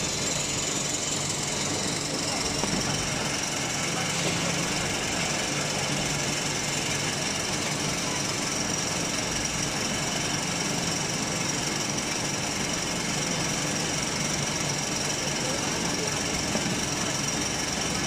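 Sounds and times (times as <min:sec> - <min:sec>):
baler machine whining and humming: 0:00.0 - 0:18.0.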